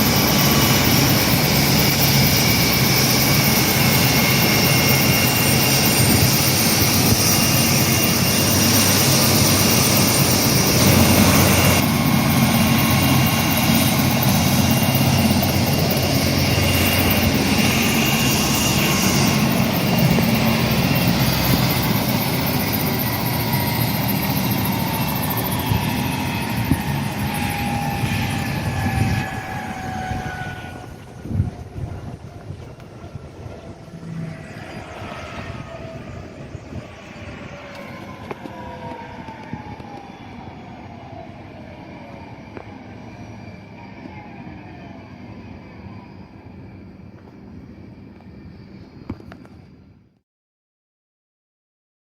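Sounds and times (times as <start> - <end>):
helicopter rotor beat: 0.0 - 49.7
helicopter turbine whine: 0.0 - 50.1.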